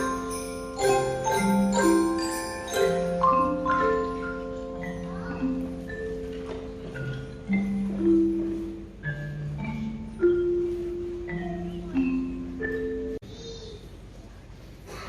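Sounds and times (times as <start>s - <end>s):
bells playing slow melody: 0.0s - 13.2s.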